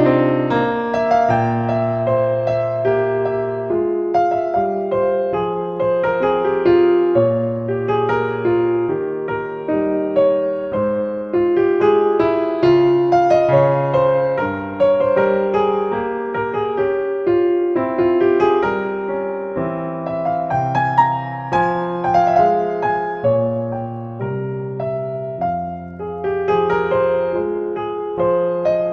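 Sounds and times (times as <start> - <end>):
piano music: 0.0 - 28.9.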